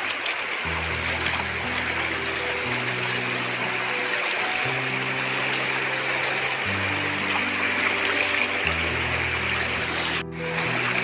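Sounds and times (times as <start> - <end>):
river rushing over rocks: 0.0 - 11.0
background music of low notes: 0.6 - 11.0.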